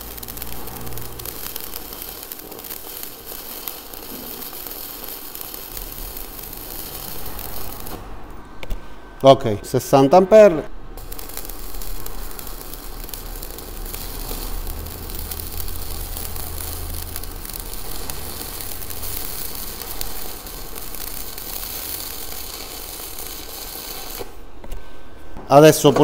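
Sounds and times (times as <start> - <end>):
welding arc crackling sizzle: 0.0 - 9.8, 10.7 - 24.8.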